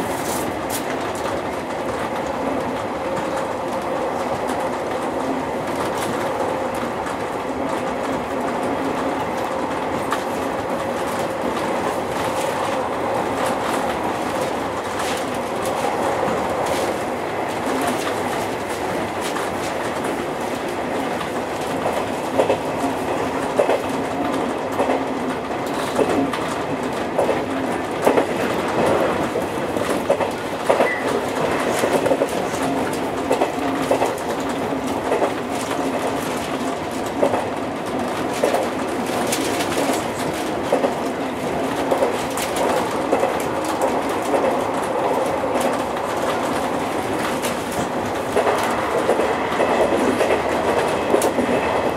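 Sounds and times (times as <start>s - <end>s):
train running with hum: 0.0s - 51.9s
rail-joint clicks: 0.1s - 51.9s.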